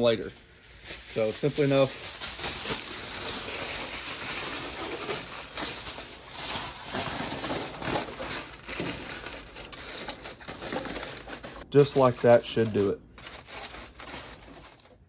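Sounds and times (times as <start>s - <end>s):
aluminum foil crinkling: 0.0s - 15.0s.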